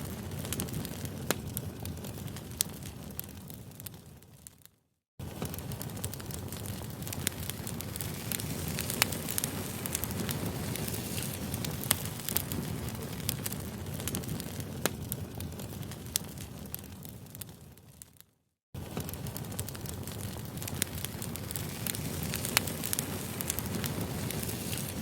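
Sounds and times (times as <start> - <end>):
sharp fire pops: 0.0 - 4.6, 5.2 - 18.2, 18.8 - 25.0
campfire crackling: 0.0 - 18.2, 18.8 - 25.0
rumble of flames: 0.0 - 25.0.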